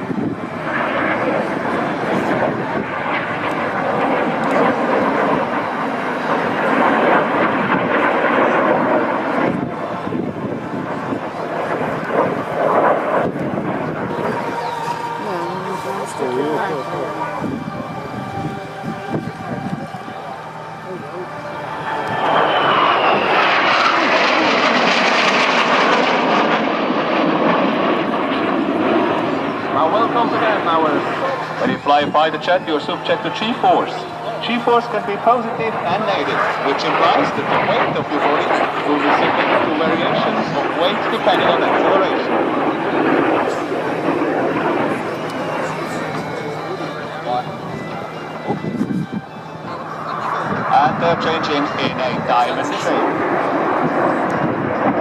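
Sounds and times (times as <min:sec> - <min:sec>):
fighter jets flying past: 0:00.0 - 0:55.0.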